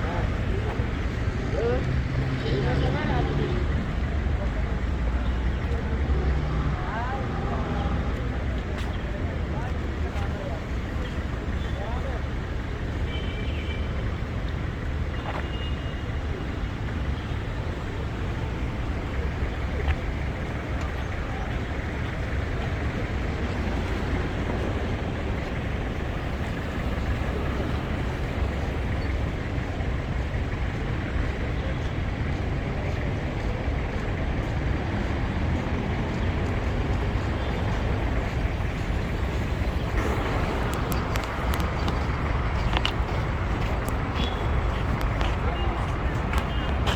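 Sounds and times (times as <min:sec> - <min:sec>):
road traffic rumble and hiss: 0:00.0 - 0:46.9.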